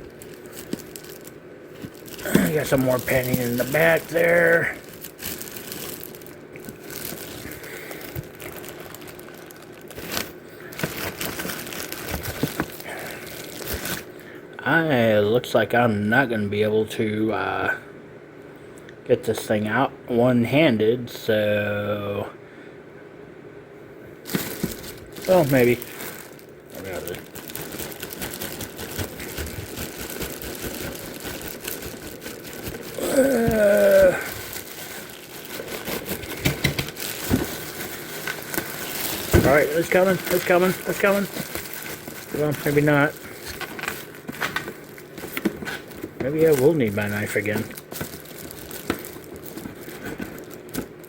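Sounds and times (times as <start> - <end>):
packing material crinkling: 0.0 - 14.2, 24.2 - 51.0.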